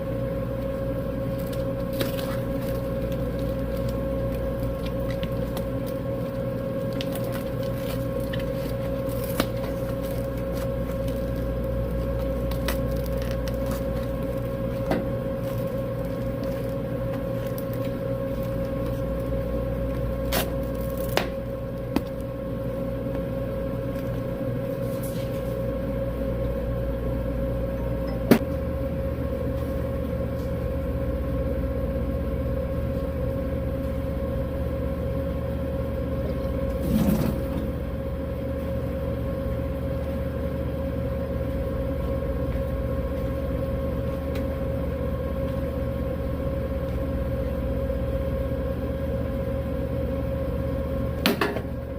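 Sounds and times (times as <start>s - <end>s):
electric machine hum: 0.0s - 51.9s.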